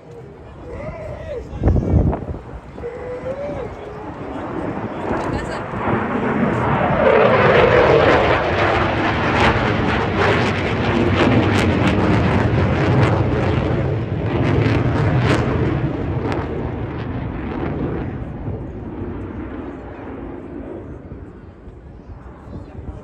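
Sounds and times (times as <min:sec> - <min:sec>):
loud crackling jet engines: 0:00.0 - 0:23.0.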